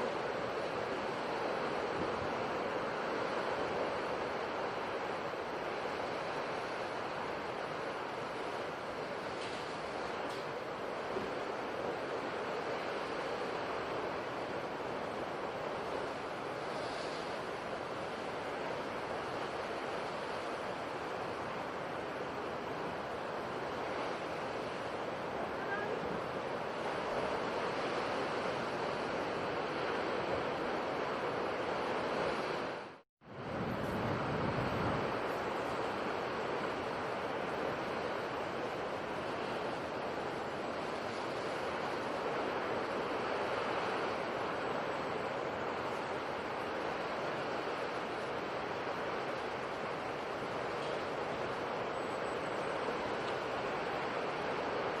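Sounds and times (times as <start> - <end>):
sea surf rushing: 0.0 - 55.0.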